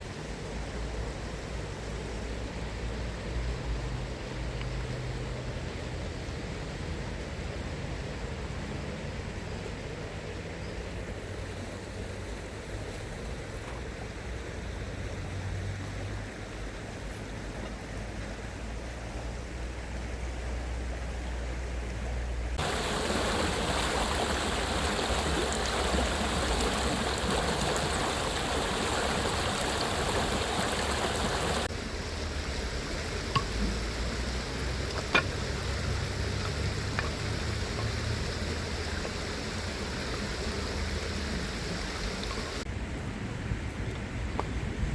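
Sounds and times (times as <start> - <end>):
stream water running: 0.0 - 44.9.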